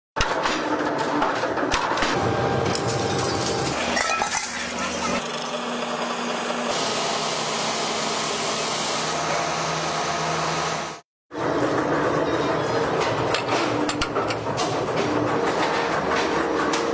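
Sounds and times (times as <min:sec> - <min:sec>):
metalworking machinery running: 0:00.2 - 0:16.9.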